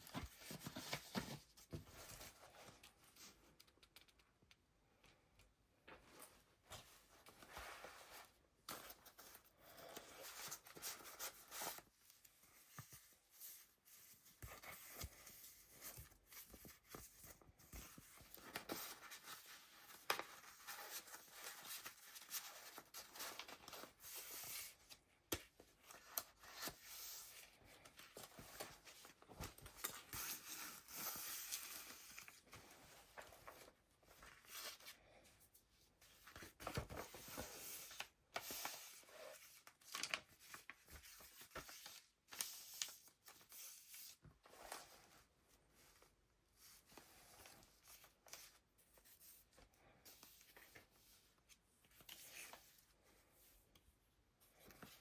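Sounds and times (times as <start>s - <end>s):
paper pages rustling: 0.0s - 4.2s, 6.1s - 35.2s, 36.0s - 49.4s.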